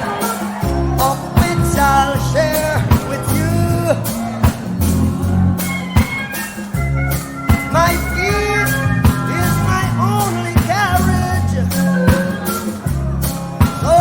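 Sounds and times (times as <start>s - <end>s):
blues-rock song with vocals: 0.0s - 14.0s.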